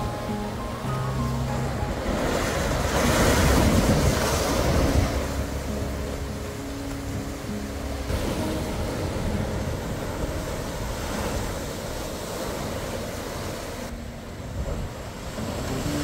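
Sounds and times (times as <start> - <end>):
waves breaking on rocky shore: 0.0 - 16.0
wind on microphone: 0.0 - 16.0.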